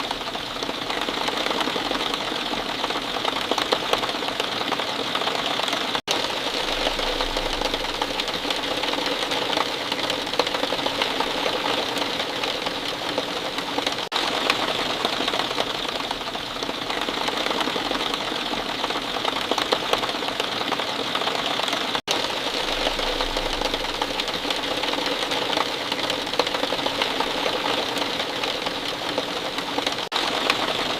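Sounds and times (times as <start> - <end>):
steady rain pattering: 0.0 - 30.9.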